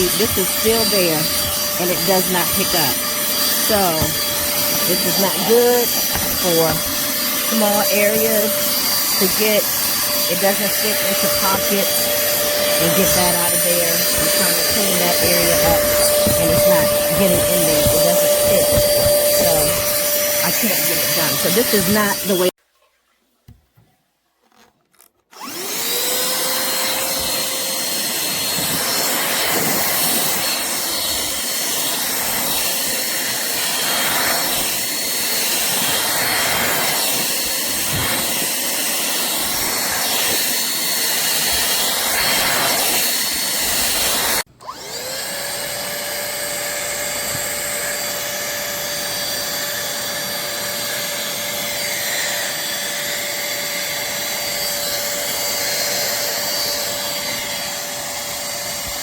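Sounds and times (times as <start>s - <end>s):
handheld vacuum motor whine: 0.0s - 22.6s, 25.3s - 59.0s.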